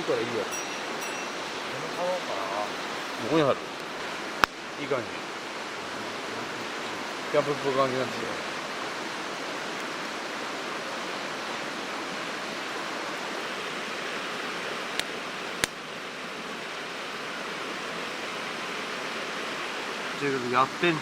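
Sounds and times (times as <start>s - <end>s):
river rushing: 0.0s - 21.0s.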